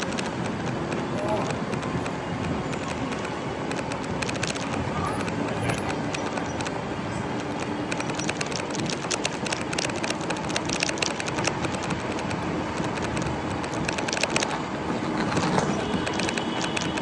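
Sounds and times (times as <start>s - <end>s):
small clicks and rattles: 0.0s - 17.0s
vehicle rumble: 0.0s - 17.0s.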